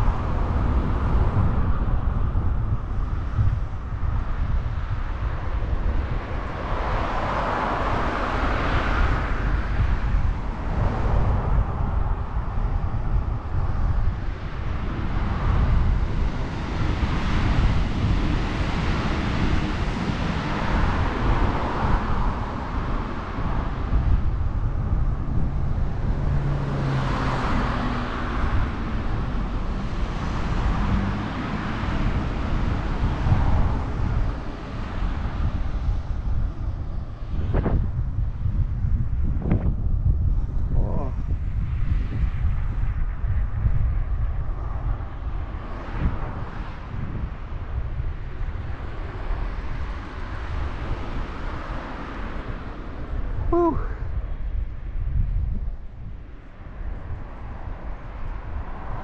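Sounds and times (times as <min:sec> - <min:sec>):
passing road traffic: 0:00.0 - 0:59.0
wind rushing over microphone: 0:00.0 - 0:59.0.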